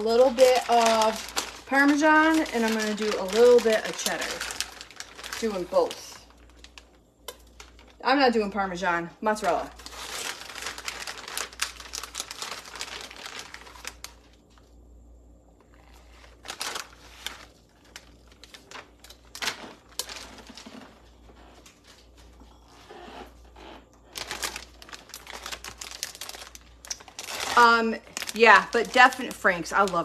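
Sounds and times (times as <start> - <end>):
plastic bag crinkling: 0.0 - 14.8, 15.6 - 22.6, 24.0 - 30.0.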